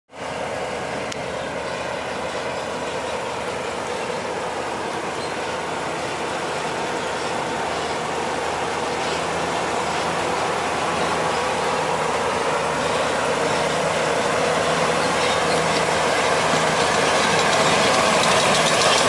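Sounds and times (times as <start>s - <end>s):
heavy vehicle engine running: 0.1s - 19.0s
road noise: 0.1s - 19.0s.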